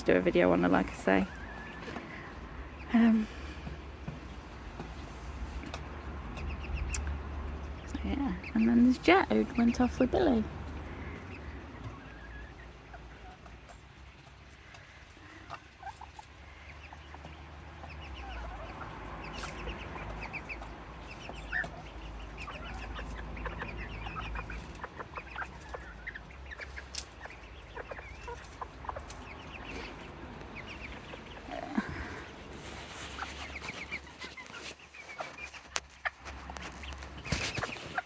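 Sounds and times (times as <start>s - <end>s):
chickens clucking: 0.0s - 38.0s.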